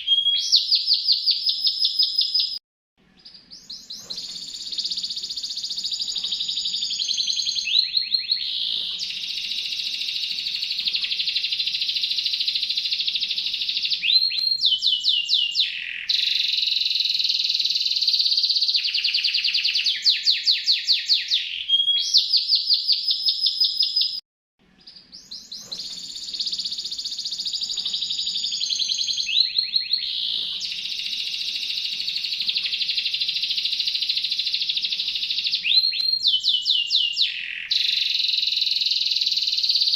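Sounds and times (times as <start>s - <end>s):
canary singing trills: 0.0s - 2.6s, 3.2s - 39.9s.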